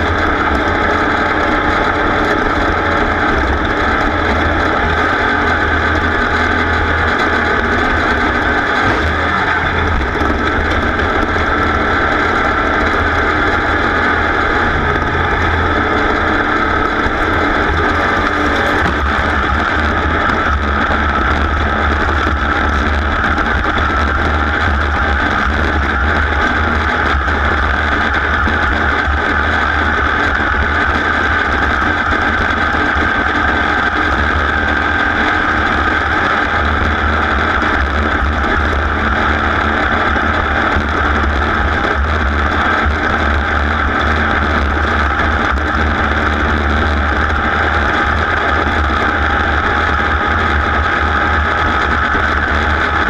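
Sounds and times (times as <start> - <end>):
racing engine running loudly: 0.0 - 53.0.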